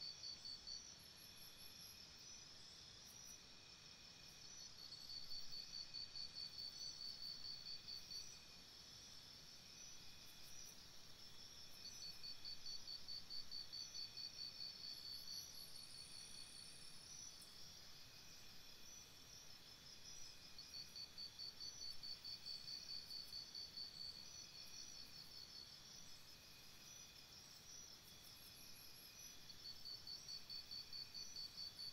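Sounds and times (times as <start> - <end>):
insect chorus buzzing: 0.1 - 31.9.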